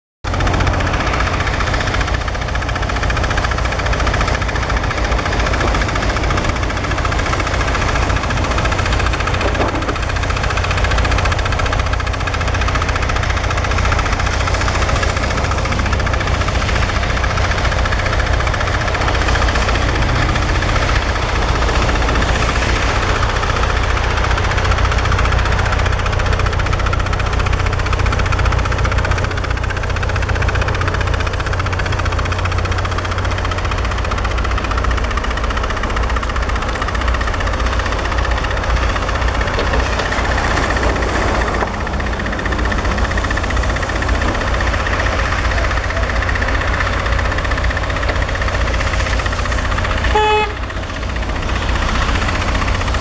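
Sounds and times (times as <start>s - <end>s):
heavy diesel engines droning: 0.2s - 53.0s.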